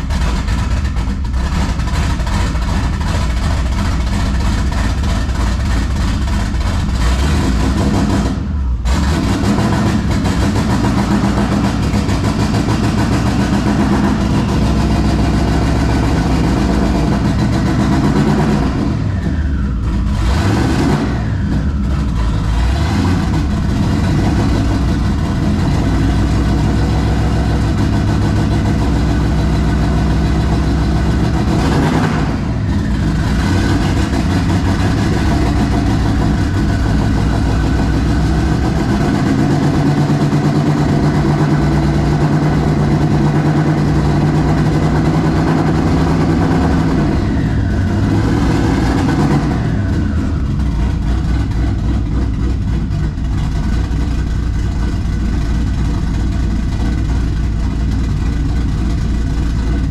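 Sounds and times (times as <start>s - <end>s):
car engine revving and idling: 0.0s - 59.9s.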